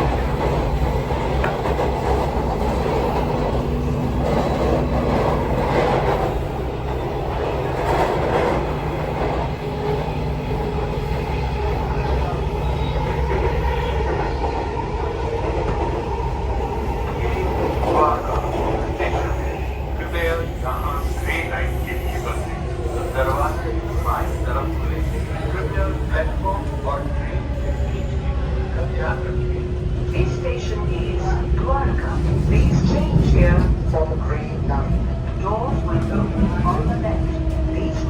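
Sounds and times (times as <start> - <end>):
train motors humming: 0.0 - 38.0
wheels rumbling on rails: 0.0 - 38.0.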